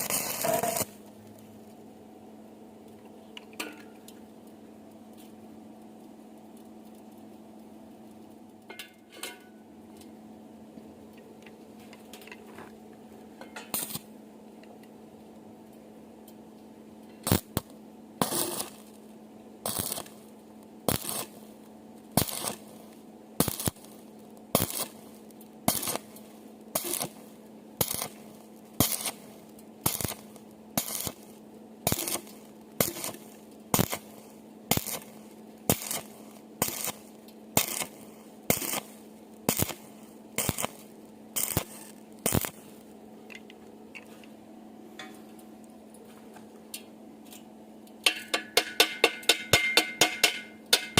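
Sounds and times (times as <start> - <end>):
welder hum: 0.0 - 47.4
arc welder crackling: 0.0 - 50.9.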